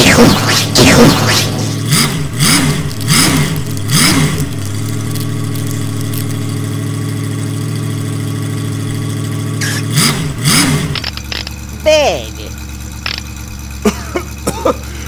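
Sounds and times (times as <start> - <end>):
truck engine revving and idling: 0.0 - 15.0.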